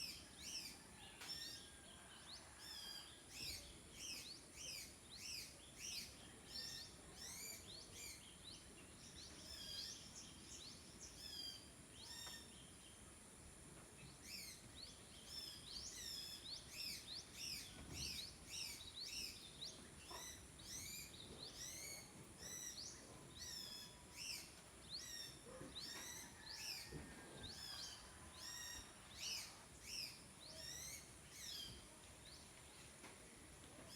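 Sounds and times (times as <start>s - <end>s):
small birds chirping: 2.6s - 33.9s.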